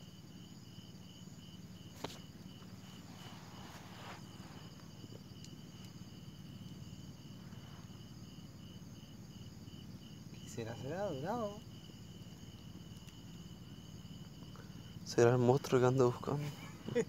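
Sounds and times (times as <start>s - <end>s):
crickets chirping: 0.0s - 17.0s
high insect trill: 0.0s - 17.0s.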